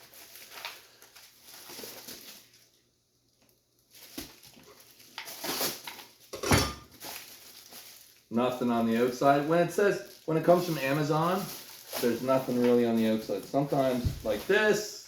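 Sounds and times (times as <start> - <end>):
parcel rustling: 0.0 - 2.8, 3.7 - 15.0.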